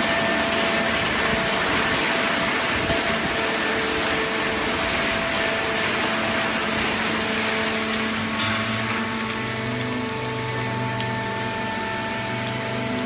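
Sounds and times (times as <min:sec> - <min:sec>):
baler machine hum: 0:00.0 - 0:13.0
deeper machine hum: 0:00.0 - 0:13.0.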